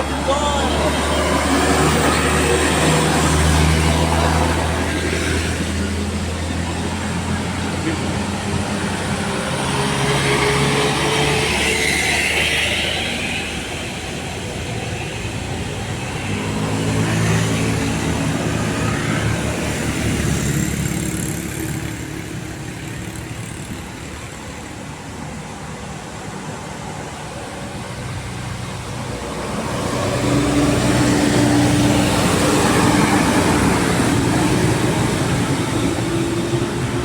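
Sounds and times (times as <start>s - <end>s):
vehicle engines under load: 0.0s - 37.0s.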